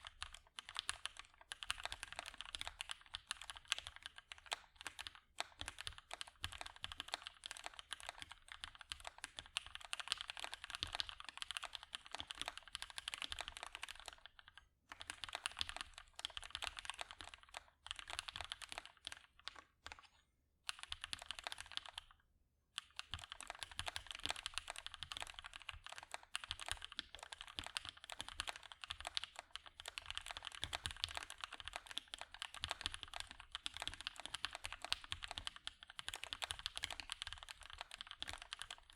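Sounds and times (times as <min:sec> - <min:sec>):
mechanical keyboard typing: 0:00.0 - 0:20.1, 0:20.7 - 0:22.2, 0:22.8 - 0:38.9.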